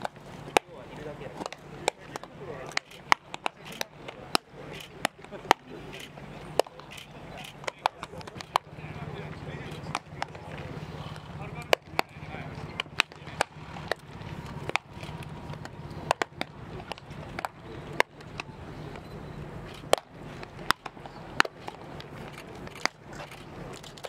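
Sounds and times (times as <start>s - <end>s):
low hum: 0.0s - 24.0s
baseballs smacking into gloves: 1.3s - 5.7s, 6.5s - 6.9s, 7.5s - 19.0s, 19.8s - 24.0s.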